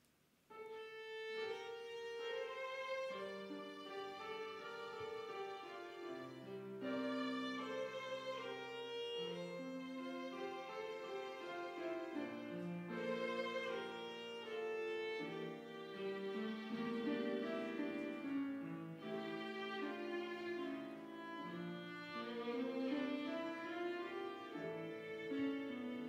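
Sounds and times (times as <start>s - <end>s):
piano accompaniment: 0.5s - 26.0s
violin slow melody: 0.5s - 26.0s.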